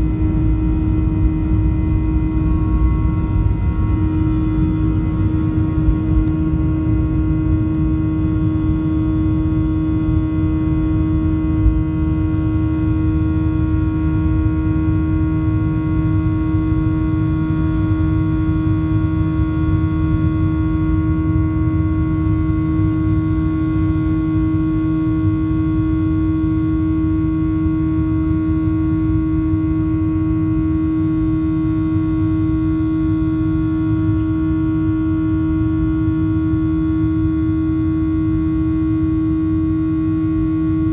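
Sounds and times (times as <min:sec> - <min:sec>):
jet engine drone in cabin: 0:00.0 - 0:40.9.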